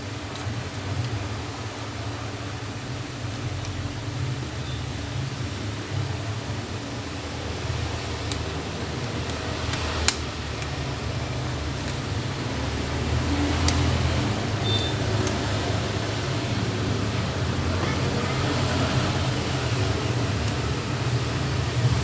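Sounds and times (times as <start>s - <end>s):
fan-like hum: 0.0s - 22.0s.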